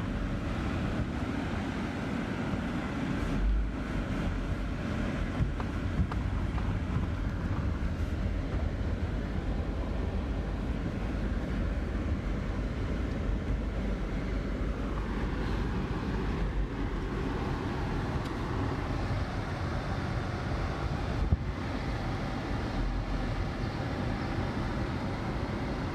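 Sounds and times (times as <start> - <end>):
wind noise: 0.0 - 23.4
road and engine rumble: 0.0 - 25.9.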